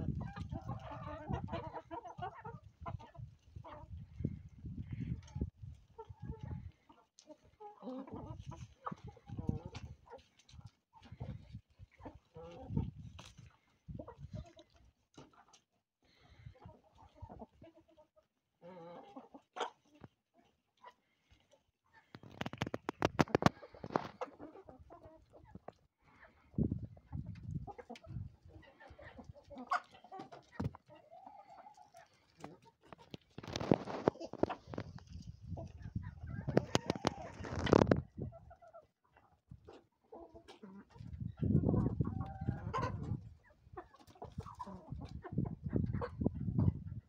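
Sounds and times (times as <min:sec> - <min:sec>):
chickens clucking softly: 0:00.0 - 0:47.0.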